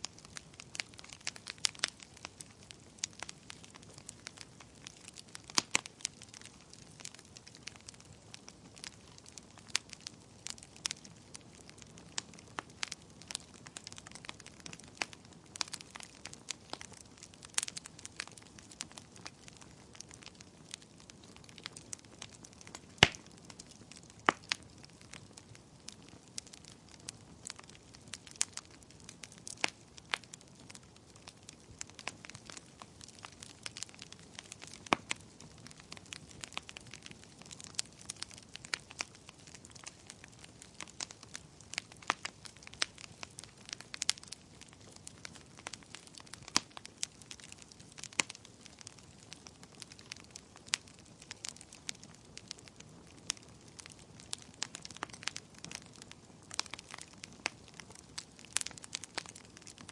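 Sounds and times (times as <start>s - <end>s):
wood bonfire crackling: 0.0s - 59.9s.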